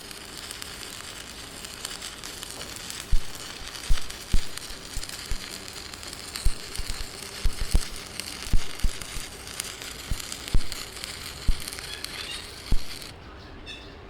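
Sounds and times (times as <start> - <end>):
welding arc crackling: 0.0 - 13.1.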